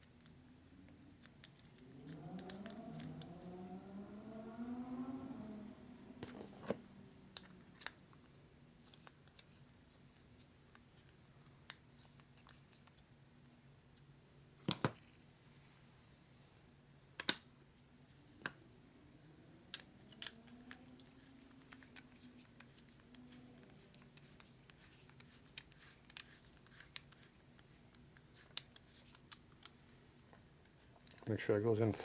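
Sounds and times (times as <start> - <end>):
faint hum: 0.0 - 32.0.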